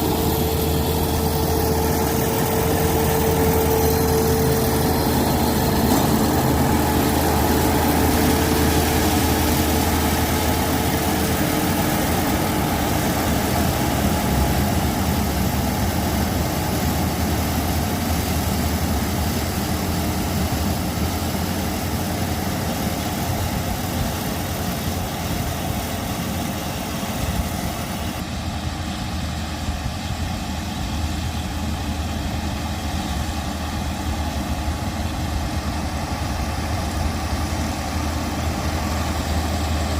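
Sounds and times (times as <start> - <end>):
harvester engine humming: 0.0 - 39.9.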